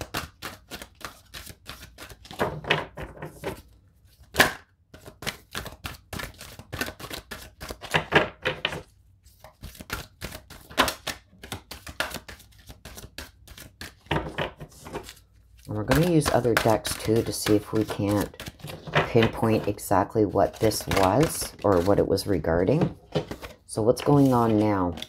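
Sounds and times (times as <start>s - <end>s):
cards being shuffled: 0.0s - 2.6s, 3.2s - 8.1s, 8.8s - 25.0s.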